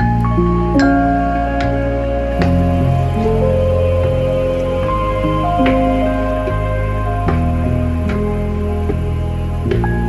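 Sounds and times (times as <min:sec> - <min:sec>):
soft bell-like melody: 0:00.0 - 0:10.0
sustained low notes: 0:00.0 - 0:10.0.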